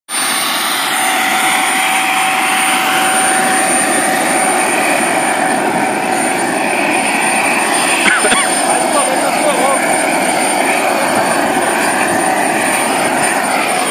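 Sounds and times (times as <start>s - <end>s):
jet turbine rushing with high whine: 0.1s - 13.9s.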